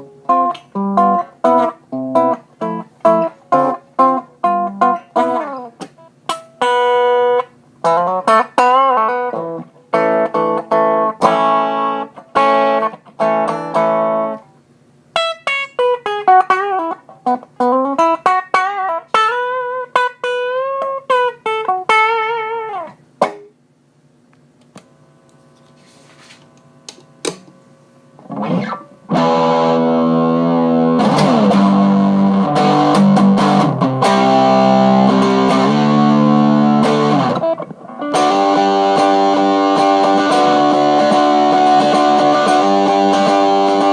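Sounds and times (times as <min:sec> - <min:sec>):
clean electric guitar: 0:00.0 - 0:14.5, 0:15.2 - 0:23.5, 0:28.2 - 0:43.9
overdriven guitar chords: 0:00.0 - 0:14.5, 0:15.2 - 0:23.5, 0:28.2 - 0:43.9.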